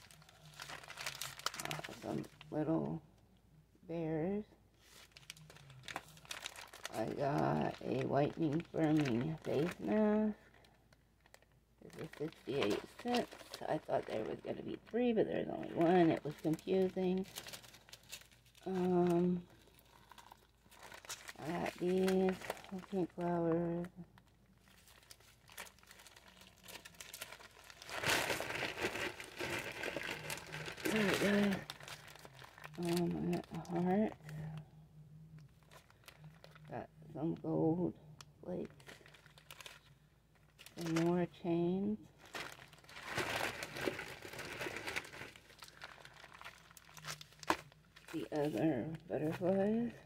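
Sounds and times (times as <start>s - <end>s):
plastic bags crinkling: 0.0s - 3.0s, 4.8s - 34.6s, 35.3s - 36.7s, 38.6s - 41.4s, 42.1s - 50.0s.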